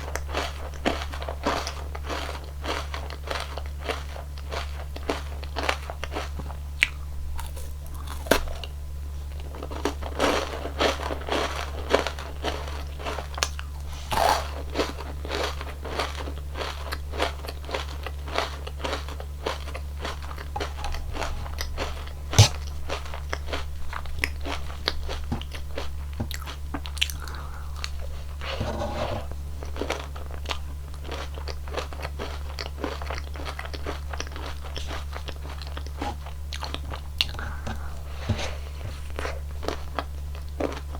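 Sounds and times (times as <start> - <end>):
crunching and chewing ice cream cone: 0.0 - 28.6, 29.2 - 40.9.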